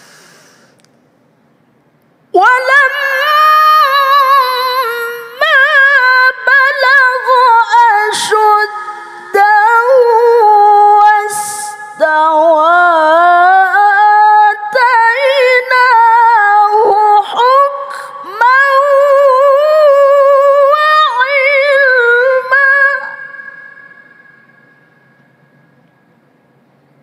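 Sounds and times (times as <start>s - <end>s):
woman chanting melodically: 2.4s - 25.0s.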